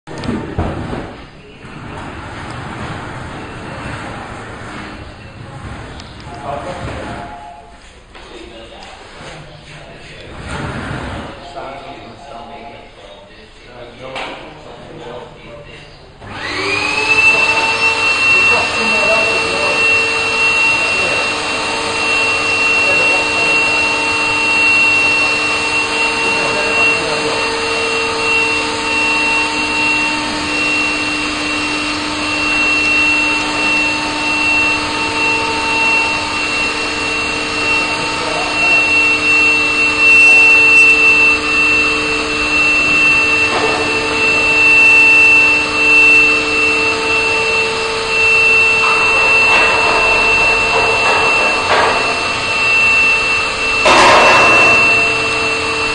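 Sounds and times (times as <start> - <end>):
air blower whining: 0.0 - 55.9.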